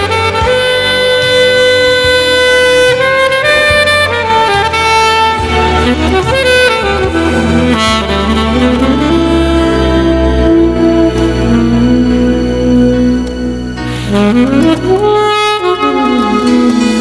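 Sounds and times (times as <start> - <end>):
backing track with bass line: 0.0 - 17.0
saxophone ballad melody: 0.0 - 17.0.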